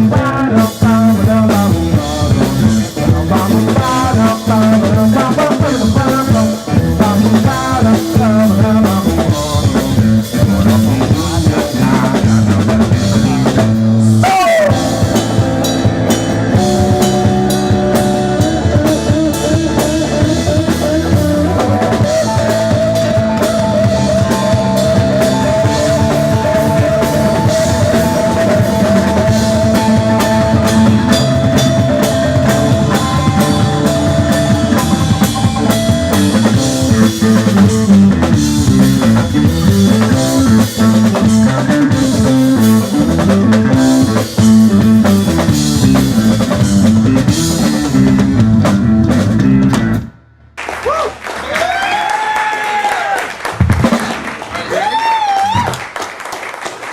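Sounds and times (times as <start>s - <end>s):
rock band playing: 0.0s - 50.3s, 52.8s - 55.8s
bass line: 0.0s - 51.9s.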